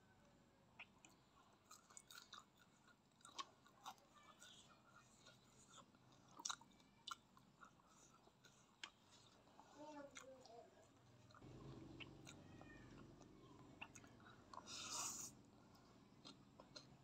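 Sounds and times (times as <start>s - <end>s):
chewing with wet mouth smacks: 0.8s - 17.0s.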